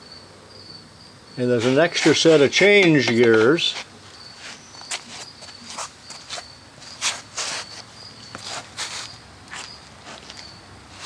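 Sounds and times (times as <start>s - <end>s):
cricket chirping: 0.0s - 11.0s
handling noises: 1.4s - 11.0s.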